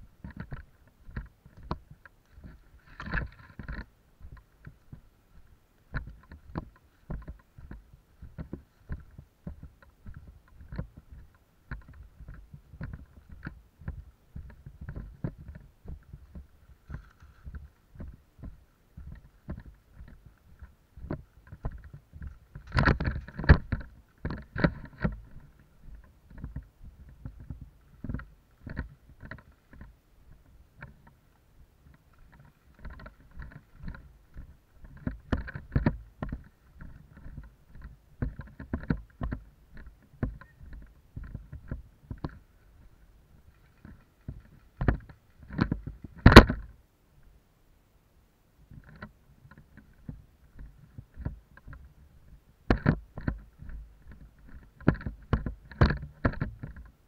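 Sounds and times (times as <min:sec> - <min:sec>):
clothing and gear rustling: 0:00.0 - 0:31.2, 0:31.8 - 0:46.7.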